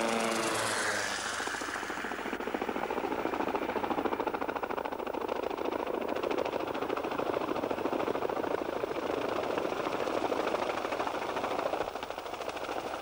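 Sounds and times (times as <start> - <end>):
helicopter engine whine: 0.0 - 13.0
helicopter rotor chop: 0.0 - 13.0.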